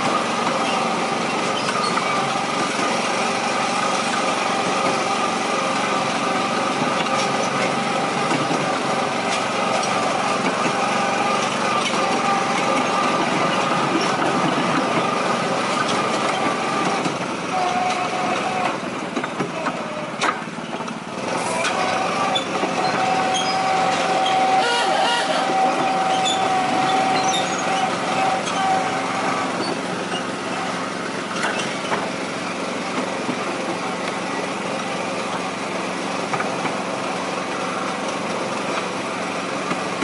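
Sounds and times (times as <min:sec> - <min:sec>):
small locomotive engine running: 0:00.0 - 0:40.0.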